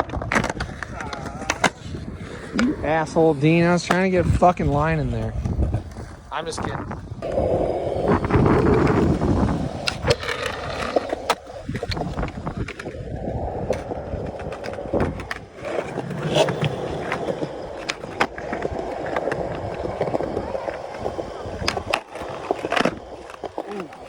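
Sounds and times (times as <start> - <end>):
skateboard clacking on ground: 0.0 - 24.0
skateboard wheels rumbling on concrete: 0.0 - 24.0.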